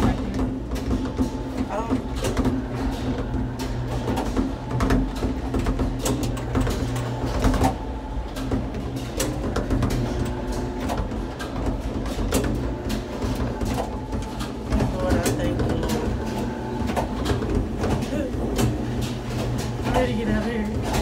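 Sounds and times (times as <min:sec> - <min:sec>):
clicks and clanks: 0:00.0 - 0:21.0
tram mechanical hum: 0:00.0 - 0:21.0.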